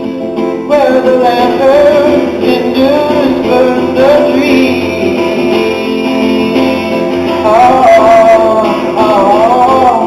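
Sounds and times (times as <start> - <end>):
guitar: 0.0 - 10.0.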